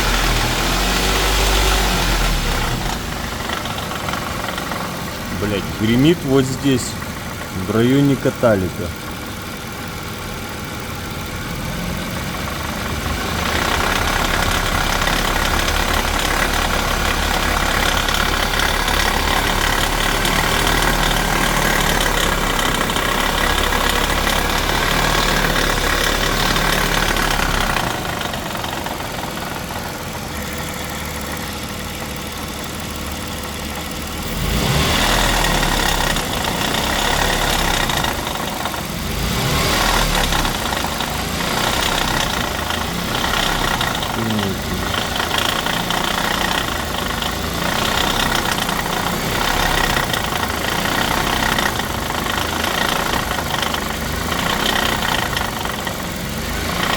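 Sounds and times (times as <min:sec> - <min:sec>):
car engine running: 0:00.0 - 0:56.9
rattling inside catalytic converter: 0:00.0 - 0:56.9.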